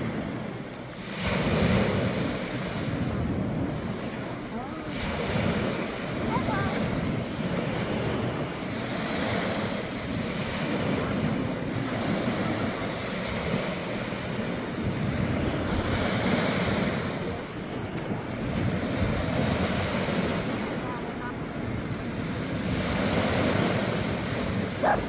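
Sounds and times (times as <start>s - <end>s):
small waves washing on beach: 0.0s - 25.0s
wind on microphone: 0.0s - 25.0s.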